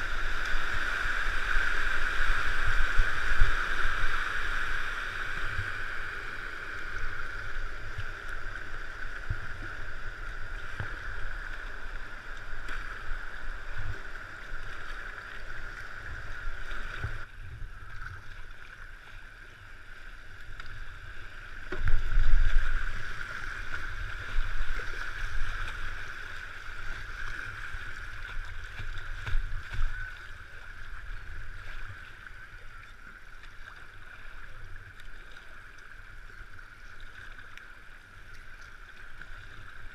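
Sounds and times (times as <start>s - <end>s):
kayak paddling: 0.0s - 39.9s.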